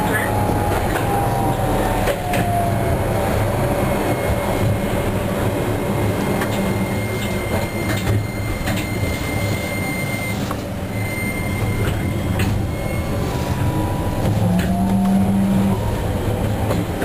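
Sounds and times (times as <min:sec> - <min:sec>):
tram drive whine: 0:00.0 - 0:17.0
tram wheels rumbling: 0:00.0 - 0:17.0.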